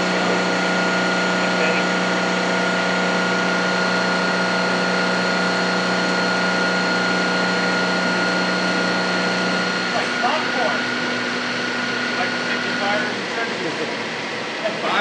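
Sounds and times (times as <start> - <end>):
high whine: 0.0 - 15.0
metal lathe cutting steel: 0.0 - 15.0.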